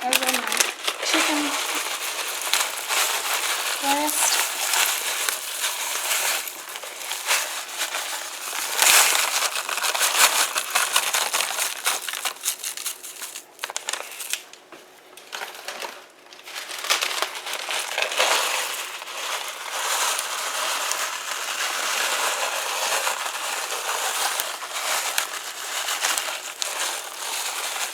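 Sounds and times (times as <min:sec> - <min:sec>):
crunchy rustling of crumbs: 0:00.0 - 0:27.9.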